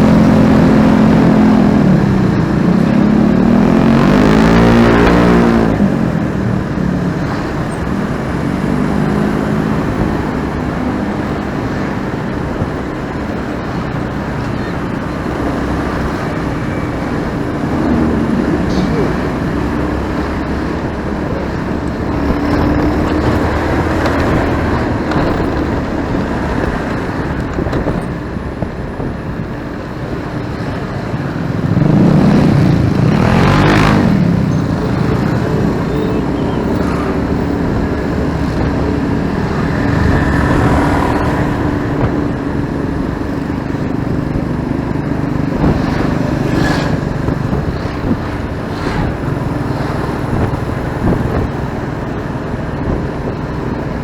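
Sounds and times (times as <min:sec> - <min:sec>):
motorcycle engine running: 0:00.0 - 0:54.0
road noise: 0:00.0 - 0:54.0
vehicle passing close: 0:00.0 - 0:54.0.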